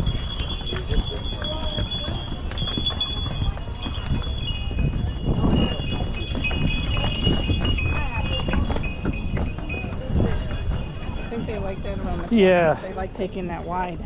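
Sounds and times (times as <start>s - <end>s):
hooves on stone steps: 0.0s - 13.5s
donkey bells jingling: 0.0s - 14.0s.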